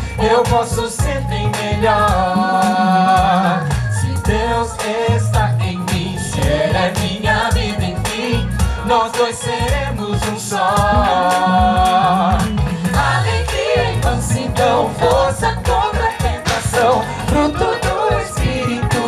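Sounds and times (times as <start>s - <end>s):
group singing in harmony: 0.0s - 19.0s
live band playing: 0.0s - 19.0s.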